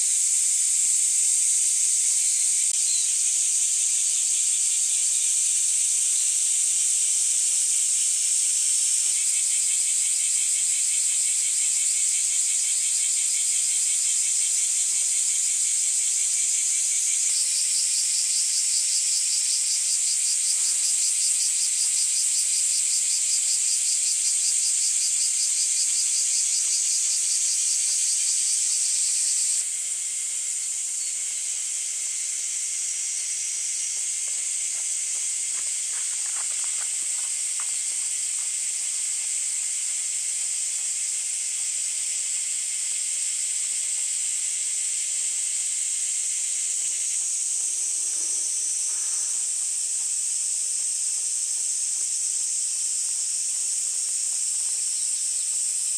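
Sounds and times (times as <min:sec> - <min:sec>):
insects high-pitched shrill: 0:00.0 - 0:55.9
insects pulsed trills: 0:00.0 - 0:55.9.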